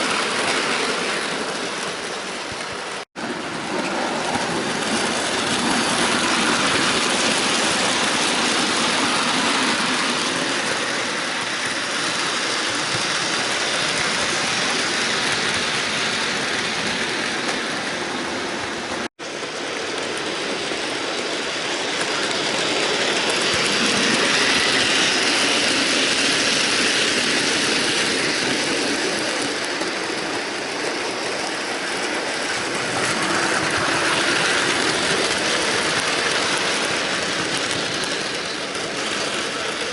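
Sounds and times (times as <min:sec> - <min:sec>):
model train whirring on rails: 0:00.0 - 0:39.9.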